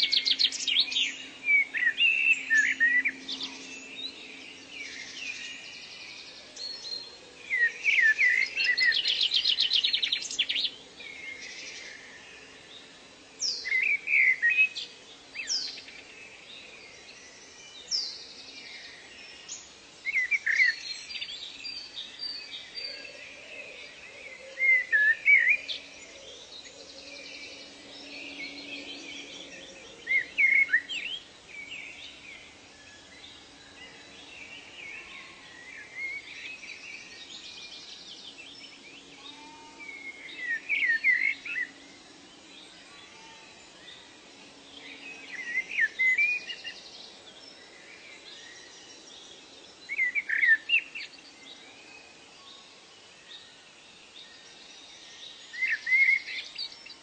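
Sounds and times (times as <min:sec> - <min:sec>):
wild birds singing and calling: 0:00.0 - 0:57.0.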